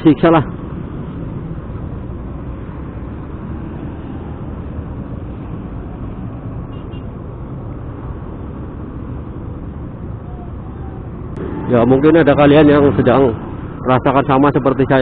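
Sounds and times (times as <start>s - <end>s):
motorcycle road and wind noise: 0.0s - 15.0s.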